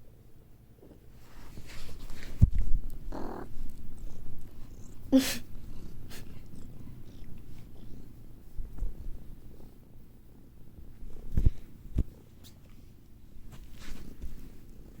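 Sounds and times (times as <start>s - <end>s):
cat purring: 0.7s - 12.9s.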